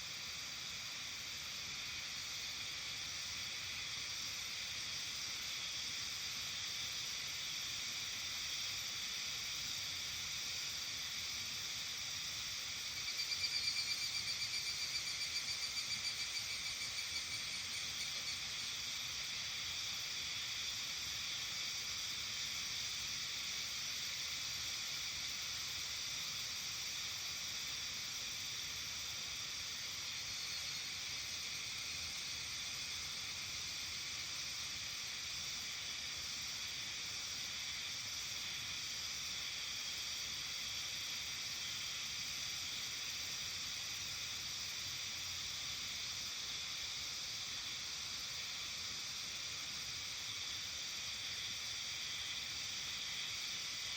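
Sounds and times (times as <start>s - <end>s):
insects chorus hissing: 0.0s - 53.9s.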